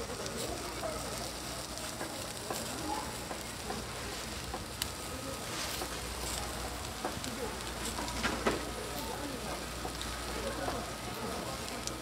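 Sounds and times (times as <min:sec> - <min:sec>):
shellfish sizzling on a griddle: 0:00.0 - 0:12.0.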